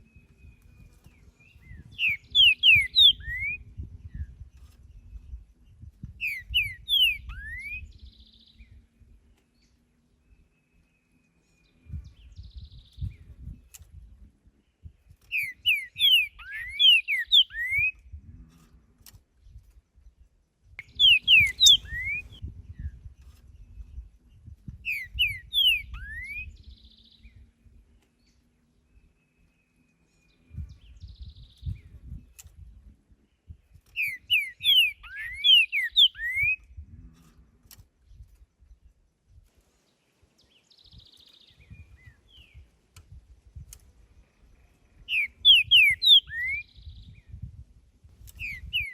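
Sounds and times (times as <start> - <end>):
bird singing whistled notes: 0.0 - 9.0, 9.6 - 14.0, 14.6 - 18.2, 19.4 - 32.4, 33.6 - 36.8, 40.4 - 42.7, 44.2 - 47.6, 48.3 - 48.9.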